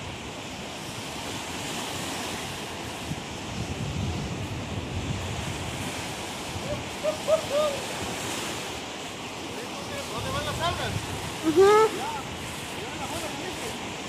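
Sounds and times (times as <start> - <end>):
wind on microphone: 0.0 - 14.0
surf breaking: 1.2 - 14.0.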